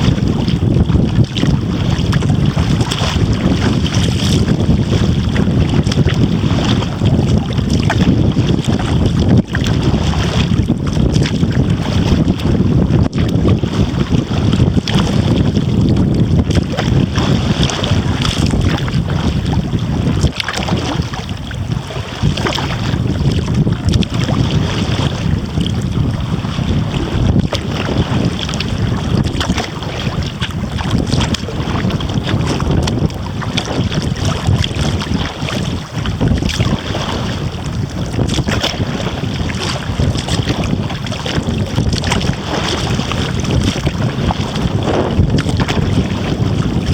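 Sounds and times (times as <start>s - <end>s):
water splashing around kayak: 0.0s - 46.9s
wind rumbling over microphone: 0.0s - 46.9s.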